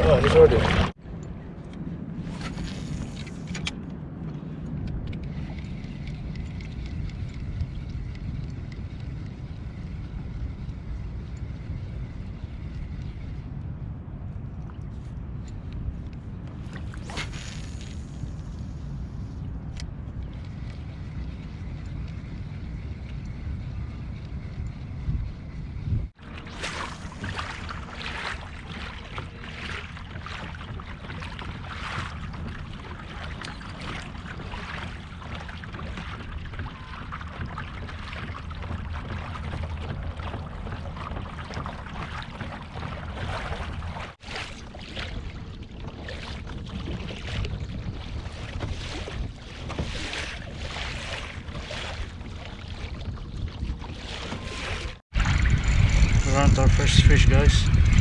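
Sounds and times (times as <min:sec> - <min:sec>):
water splashing and lapping: 0:00.0 - 0:01.0, 0:01.6 - 0:58.0
wind rumble on microphone: 0:00.0 - 0:58.0.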